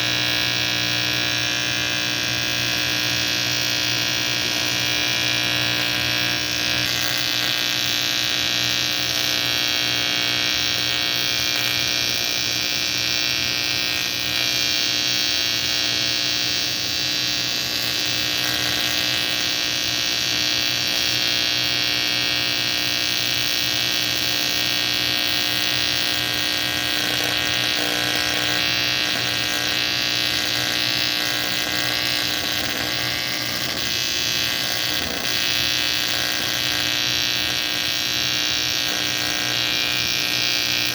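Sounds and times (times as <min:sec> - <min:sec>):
welding arc buzz: 0:00.0 - 0:40.9.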